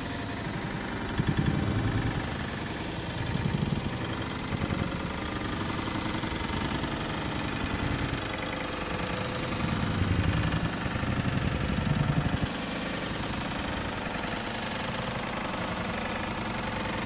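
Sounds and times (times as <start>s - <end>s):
low outdoor rumble with flutter: 0.0s - 17.0s.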